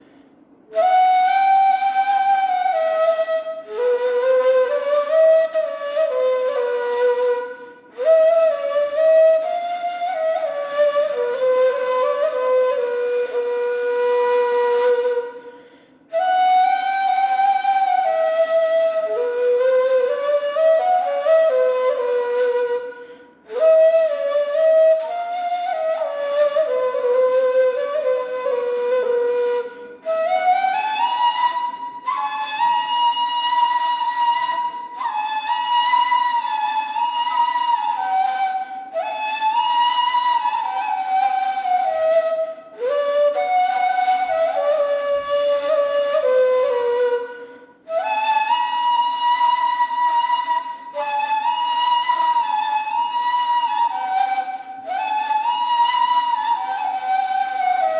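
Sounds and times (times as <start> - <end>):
reed flute melody: 0.0 - 57.9.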